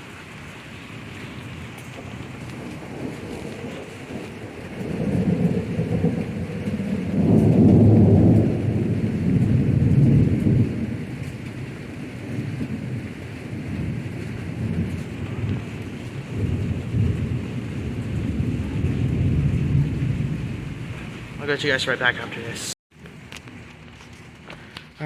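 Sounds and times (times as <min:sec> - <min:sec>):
steady rain: 0:00.0 - 0:25.0
rolling thunder: 0:01.0 - 0:22.7.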